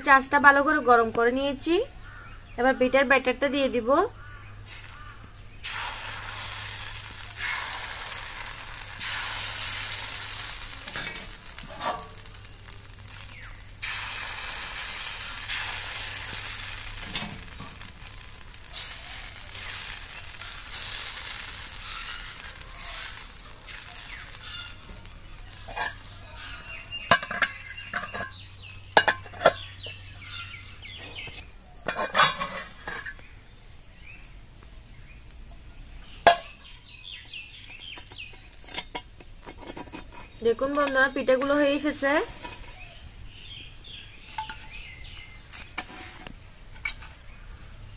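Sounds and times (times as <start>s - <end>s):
batter sizzling in hot pan: 4.2s - 47.9s.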